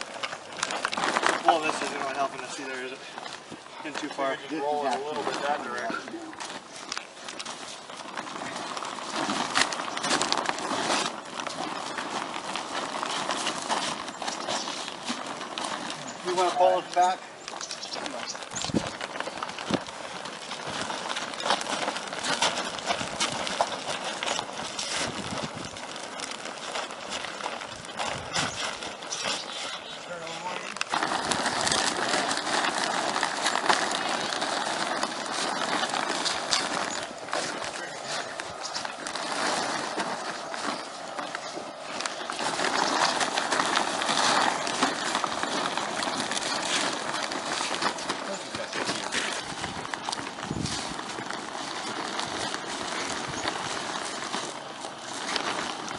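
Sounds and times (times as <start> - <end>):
heavy plastic rustling and crinkling: 0.0 - 55.9
plastic tube dragged on ground: 0.0 - 55.9.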